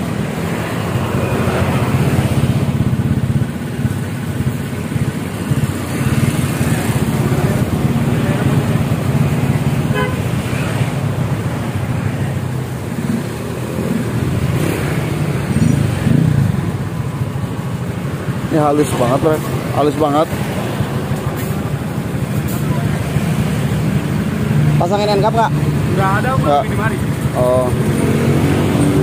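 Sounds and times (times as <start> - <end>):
scooter engine idling: 0.0 - 27.9.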